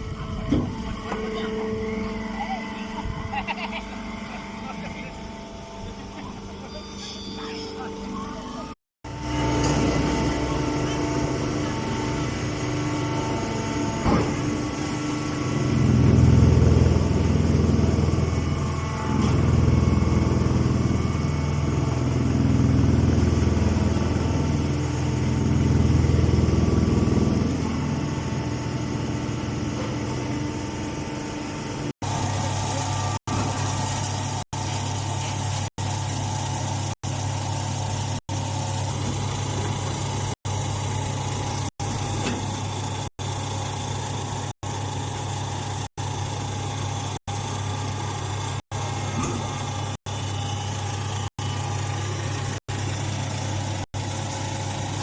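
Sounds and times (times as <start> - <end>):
baler machine motor hum: 0.0 - 55.0.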